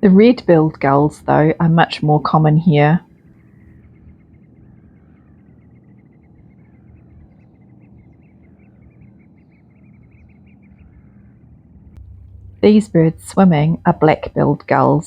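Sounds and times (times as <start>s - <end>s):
gulls calling: 0.0s - 15.0s
steady low hum: 0.0s - 15.0s.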